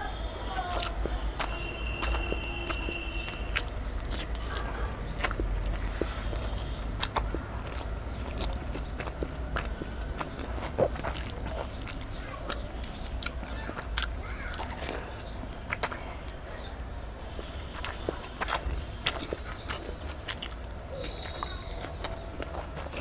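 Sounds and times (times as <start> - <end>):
wet chewing mouth smacks: 0.7 - 23.0.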